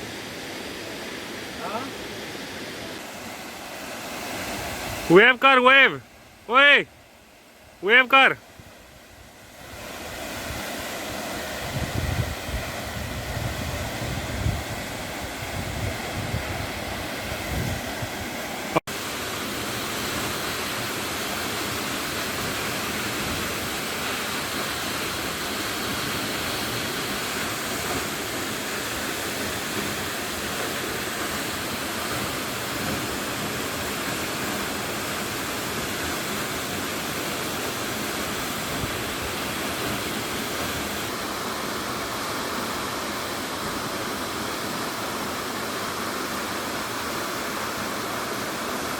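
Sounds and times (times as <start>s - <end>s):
waterfall rushing: 0.0s - 6.9s, 7.8s - 8.4s, 9.3s - 48.9s.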